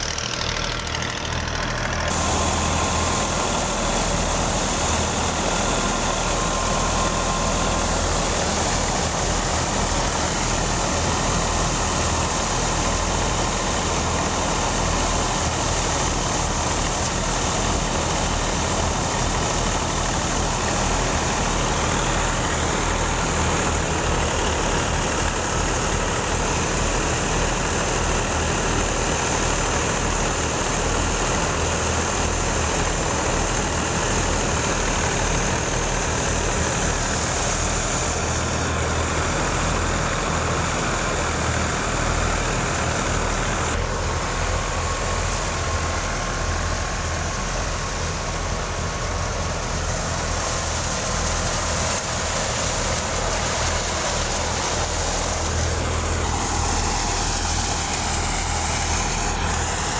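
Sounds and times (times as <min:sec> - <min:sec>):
diesel engine hum: 0:00.0 - 0:59.9
threshing machine whirring: 0:00.0 - 0:59.9.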